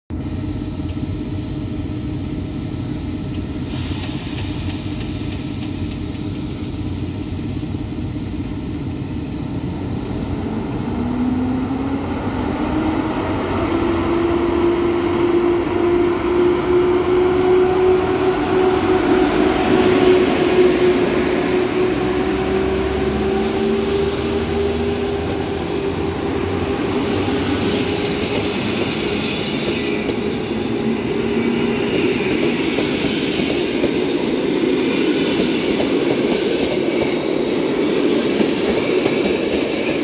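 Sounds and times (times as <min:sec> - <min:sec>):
electric locomotive starting away: 0:00.1 - 0:40.0
locomotive whine rising in pitch: 0:00.1 - 0:40.0.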